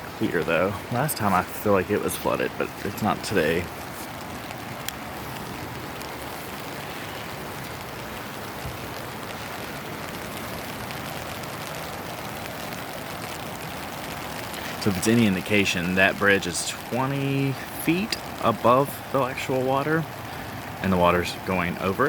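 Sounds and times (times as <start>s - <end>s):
rain falling: 0.0s - 22.0s
river rushing: 0.0s - 22.0s.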